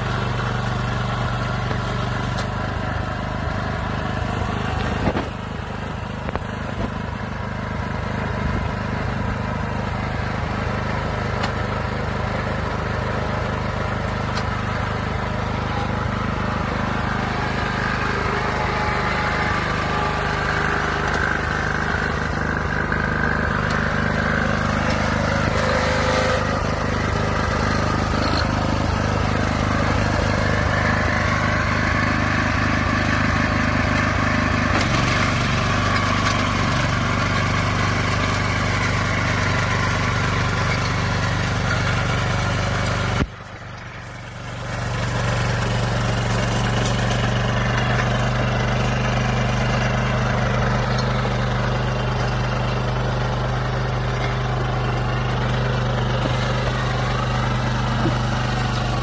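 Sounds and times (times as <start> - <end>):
cultivator engine running: 0.0 - 59.0.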